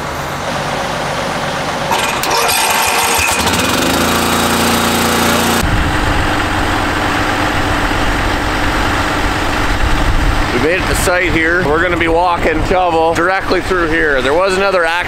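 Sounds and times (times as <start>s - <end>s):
diesel engine running: 0.0s - 14.1s
deep engine rumble: 0.0s - 14.9s.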